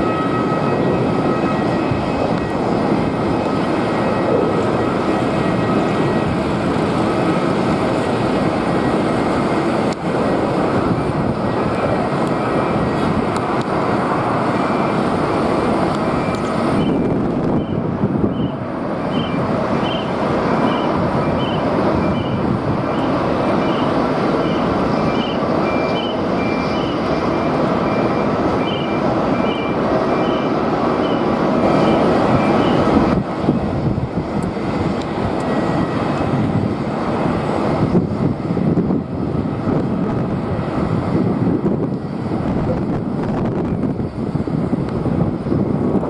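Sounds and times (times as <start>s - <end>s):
jet airliner engine: 0.0s - 46.0s
wind on microphone: 0.0s - 46.0s.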